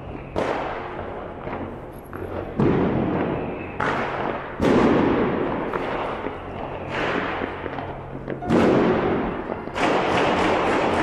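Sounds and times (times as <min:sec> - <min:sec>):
fireworks bangs echoing: 0:00.0 - 0:11.0.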